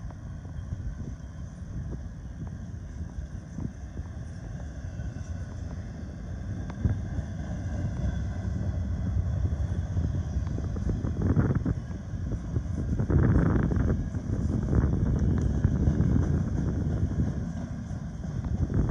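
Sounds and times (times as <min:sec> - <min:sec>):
freight train wheels rumbling: 0:00.0 - 0:18.9
rail clicks: 0:00.0 - 0:18.9.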